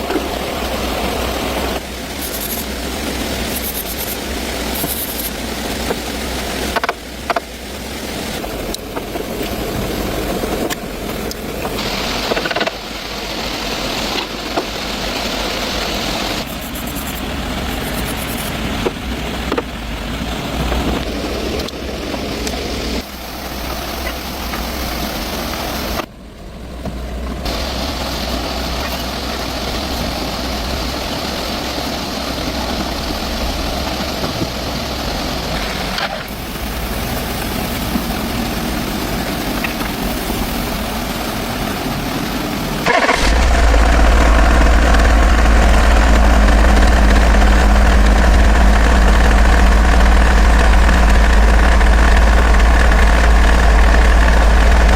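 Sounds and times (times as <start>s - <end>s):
vehicle engine rumbling: 0.0s - 54.9s.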